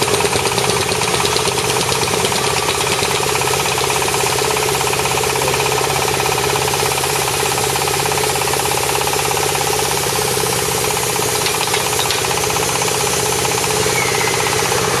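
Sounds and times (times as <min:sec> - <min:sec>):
drill hammering: 0:00.0 - 0:15.0
drilling machine engine running: 0:00.0 - 0:15.0.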